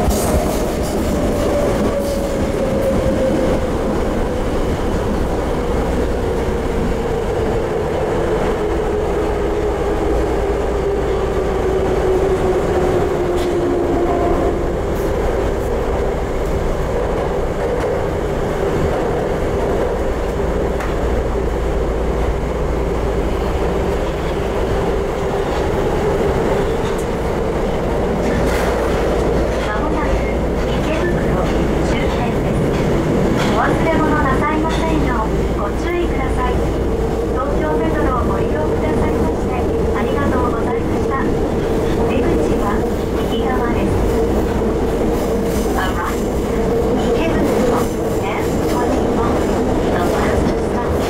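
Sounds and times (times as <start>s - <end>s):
wheels rumbling on rails: 0.0s - 51.0s.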